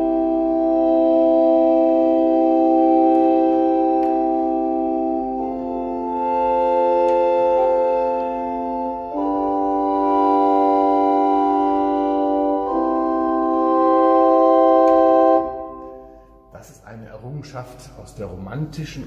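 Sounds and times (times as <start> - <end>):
pipe organ sustained chords: 0.0 - 19.0.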